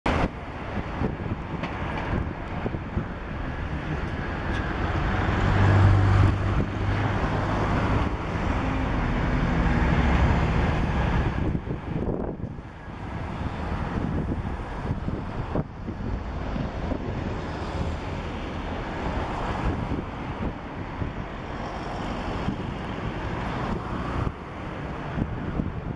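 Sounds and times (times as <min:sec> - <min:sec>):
jet engines rumbling: 0:00.1 - 0:25.9
wind buffeting microphone: 0:00.1 - 0:25.9.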